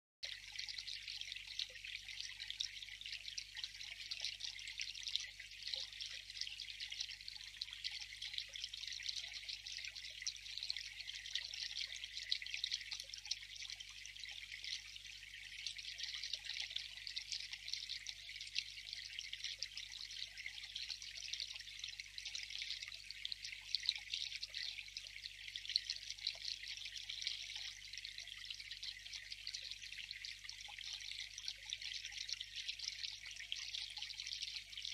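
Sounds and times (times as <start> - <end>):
water trickling into a basin: 0.2 - 34.9.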